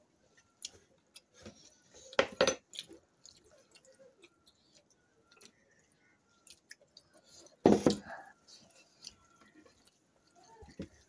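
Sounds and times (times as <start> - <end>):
rice squishing and chewing: 0.2 - 11.0.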